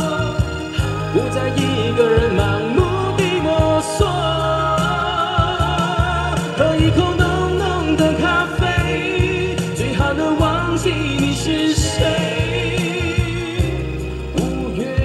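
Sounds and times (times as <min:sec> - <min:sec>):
backing music: 0:00.0 - 0:15.0
man singing pop ballad: 0:00.0 - 0:15.0.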